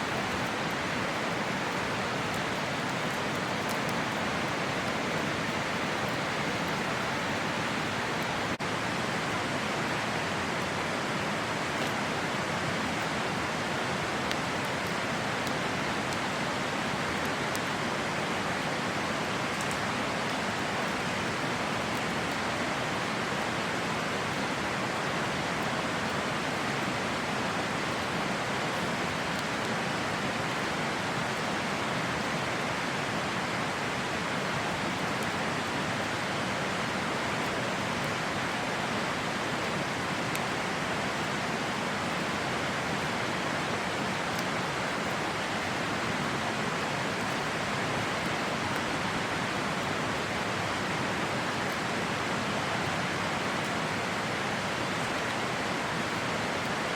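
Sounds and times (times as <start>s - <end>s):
campfire crackling: 0.0s - 56.9s
river water rushing: 0.0s - 56.9s.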